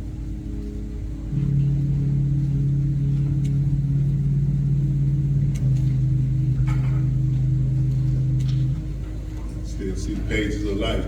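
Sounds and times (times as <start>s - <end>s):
organ holding low chord: 0.0s - 11.0s.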